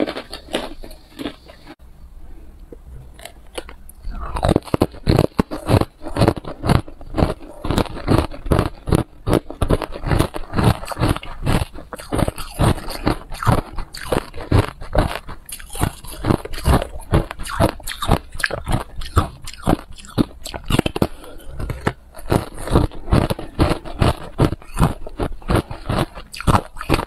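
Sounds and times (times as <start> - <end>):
person crunching ice: 3.2 - 27.0.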